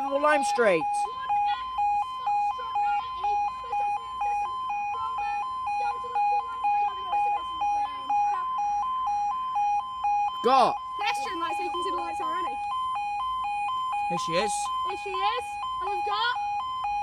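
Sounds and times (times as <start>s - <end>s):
level crossing alarm two-tone warble: 0.0s - 17.0s.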